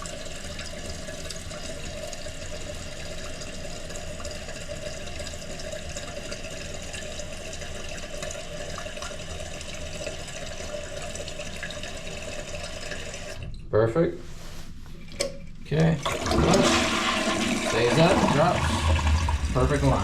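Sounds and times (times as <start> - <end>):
water filling toilet tank: 0.0 - 14.1, 15.0 - 20.0.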